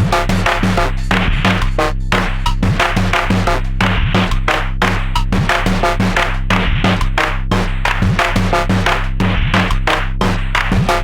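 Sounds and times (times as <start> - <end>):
deep bass drone: 0.0 - 11.0
electronic drum pattern: 0.0 - 11.0.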